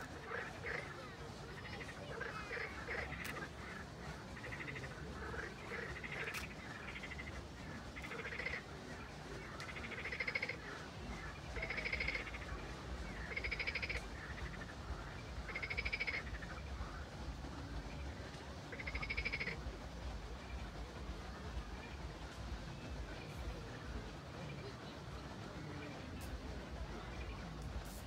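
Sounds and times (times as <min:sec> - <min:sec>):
frogs croaking: 0:00.0 - 0:27.6.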